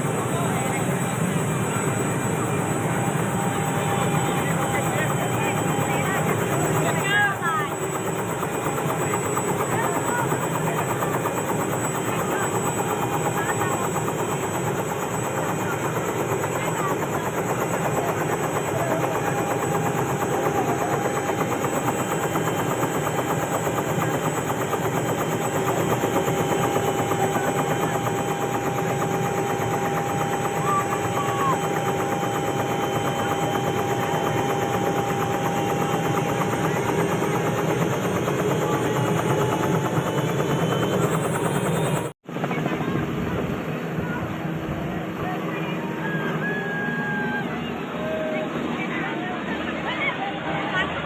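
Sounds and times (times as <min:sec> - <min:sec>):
helicopter rotor chopping: 0:00.0 - 0:51.0.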